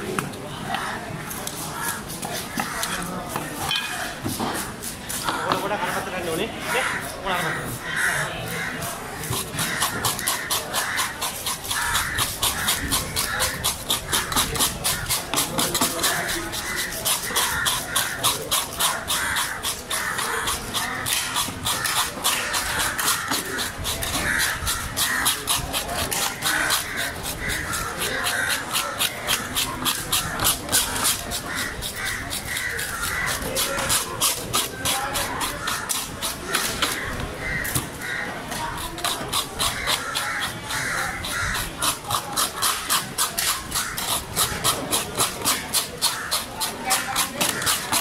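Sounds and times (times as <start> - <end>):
knife scraping fish scales: 0.6 - 48.0.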